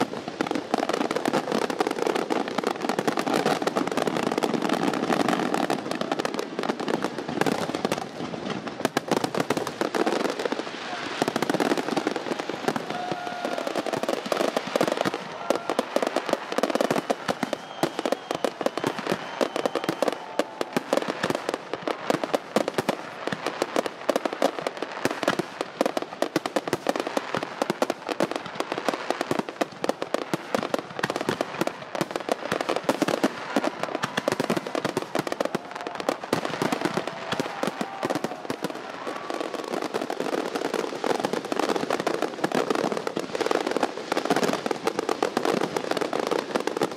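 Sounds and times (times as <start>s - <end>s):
fireworks crackling and popping: 0.0s - 46.9s.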